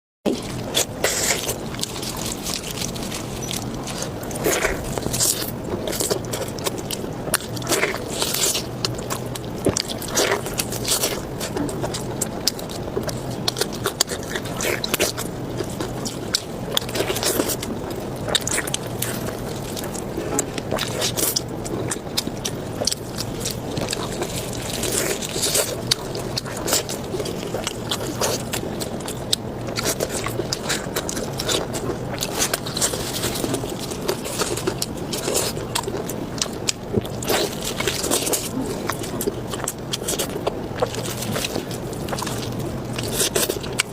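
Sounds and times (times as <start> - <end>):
low steady hum: 0.3 - 43.9
wet chewing and mouth smacks: 0.3 - 43.9.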